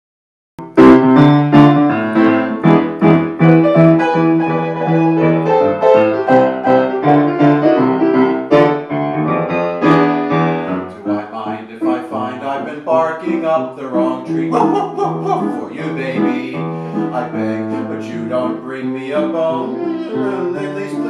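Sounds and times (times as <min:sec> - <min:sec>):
grand piano chords: 0:00.6 - 0:21.0.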